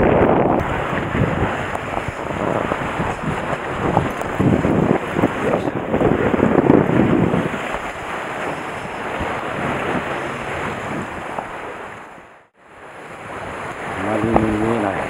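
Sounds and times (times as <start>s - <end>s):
wind buffeting microphone: 0.0s - 15.0s
waves breaking on concrete: 0.6s - 15.0s.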